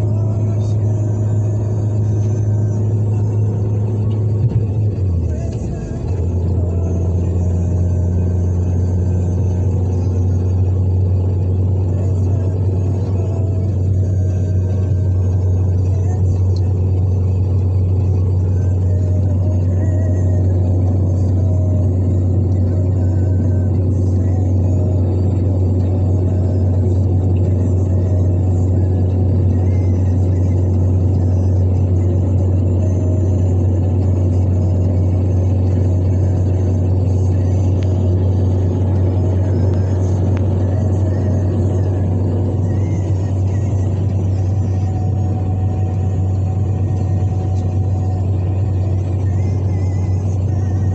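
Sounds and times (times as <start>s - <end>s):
car engine low rumble: 0.0s - 50.9s.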